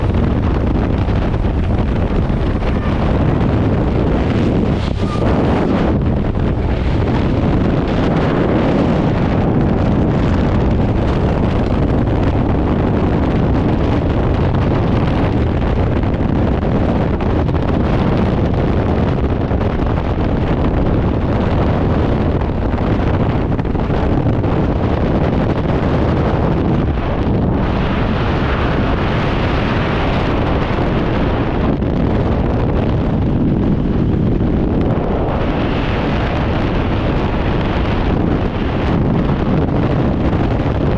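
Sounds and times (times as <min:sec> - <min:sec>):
freefall wind roar on microphone: 0:00.0 - 0:40.9.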